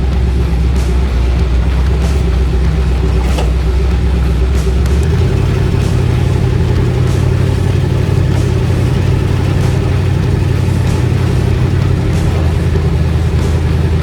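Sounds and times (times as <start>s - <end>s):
engine droning at cruise: 0.0s - 14.0s
road and air noise: 0.0s - 14.0s.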